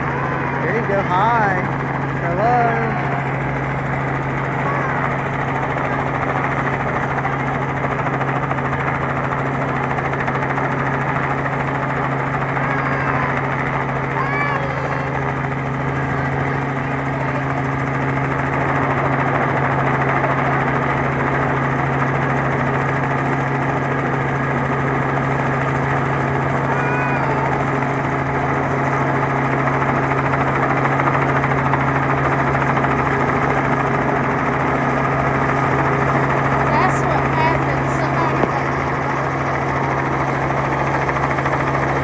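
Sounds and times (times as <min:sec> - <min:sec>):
helicopter engine and rotor drone: 0:00.0 - 0:42.0.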